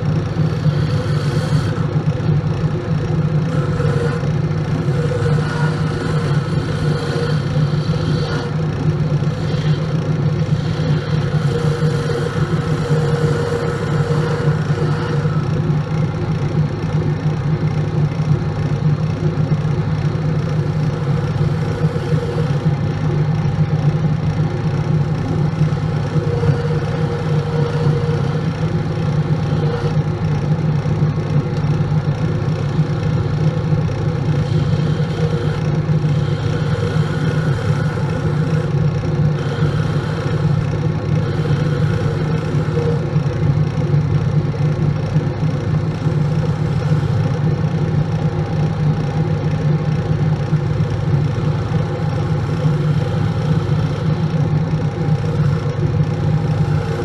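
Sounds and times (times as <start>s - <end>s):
turning tool cutting wood: 0.0s - 57.0s
wood lathe humming: 0.0s - 57.0s.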